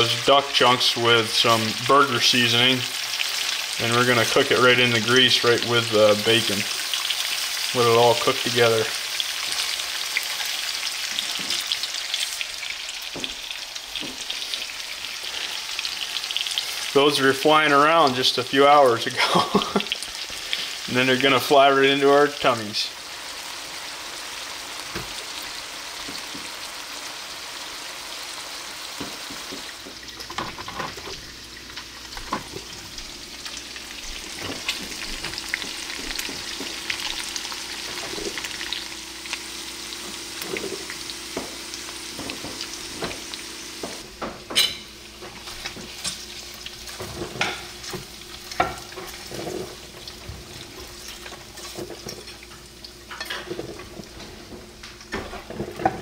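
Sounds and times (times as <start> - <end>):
meat sizzling in a frying pan: 0.0 - 54.2.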